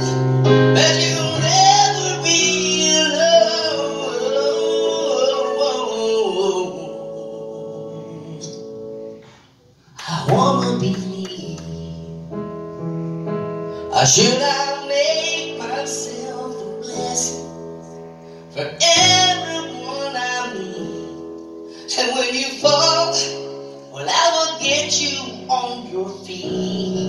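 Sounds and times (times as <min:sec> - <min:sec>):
keyboard chords: 0:00.0 - 0:09.3, 0:10.0 - 0:27.0.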